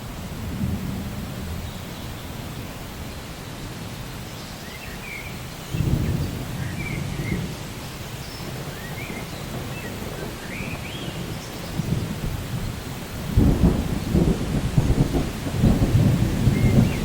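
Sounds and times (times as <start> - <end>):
thunder rumble: 0.0 - 3.2, 5.7 - 17.0
rain hiss: 0.0 - 17.0.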